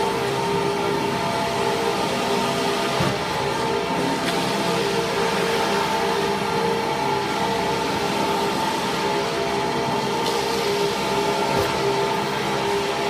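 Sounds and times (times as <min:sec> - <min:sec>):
production line machinery running: 0:00.0 - 0:13.0.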